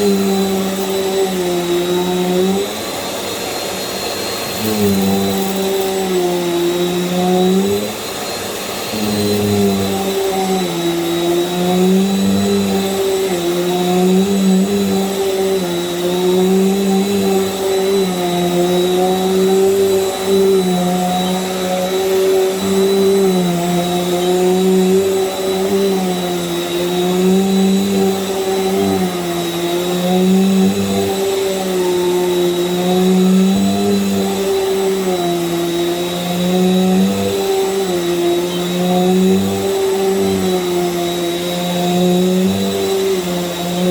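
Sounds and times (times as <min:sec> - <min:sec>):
thin high whine: 0:00.0 - 0:43.9
vacuum cleaner running: 0:00.0 - 0:43.9.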